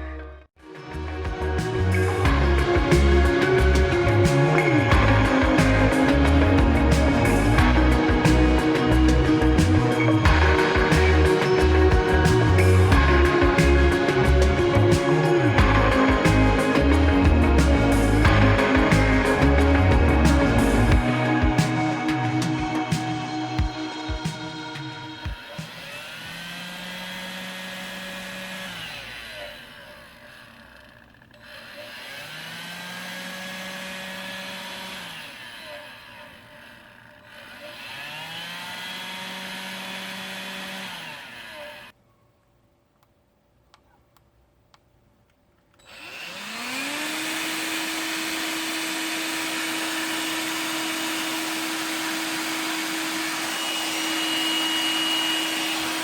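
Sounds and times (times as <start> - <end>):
vacuum motor whining: 1.9 - 41.9, 45.8 - 56.0.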